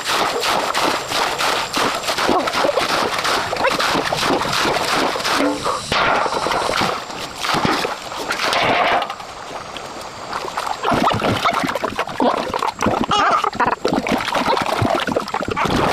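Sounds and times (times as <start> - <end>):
water splashing and sloshing: 0.0 - 15.9.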